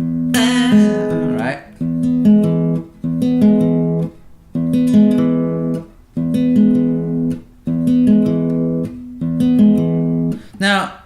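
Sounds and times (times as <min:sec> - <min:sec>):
acoustic guitar fingerpicked arpeggio: 0:00.0 - 0:10.7.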